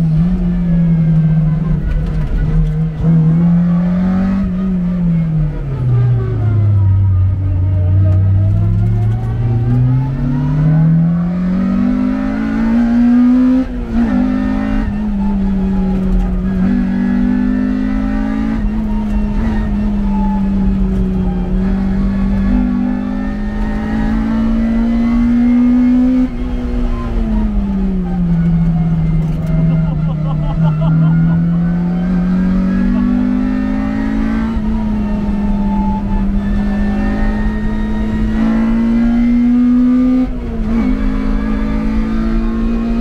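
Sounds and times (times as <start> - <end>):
vehicle engine revving: 0.0 - 43.0.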